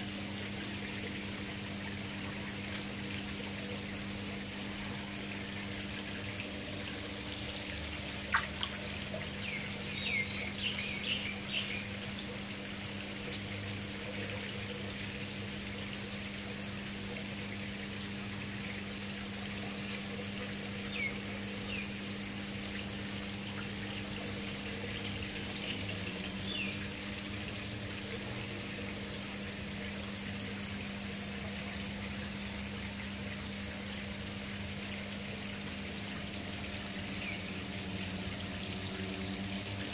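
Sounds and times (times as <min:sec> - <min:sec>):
low steady hum: 0:00.0 - 0:39.9
water trickling into pond: 0:00.0 - 0:39.9.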